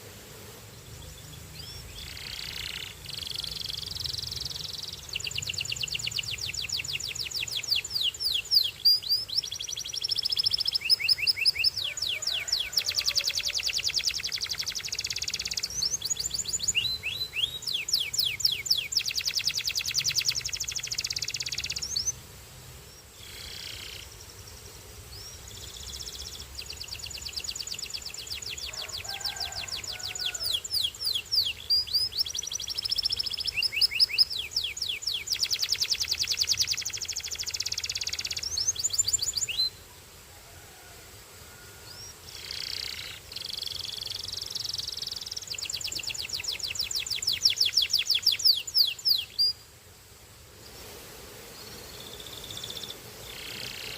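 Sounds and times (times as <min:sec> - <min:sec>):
canary singing trills: 0:00.9 - 0:22.2, 0:25.1 - 0:39.8, 0:41.8 - 0:49.6.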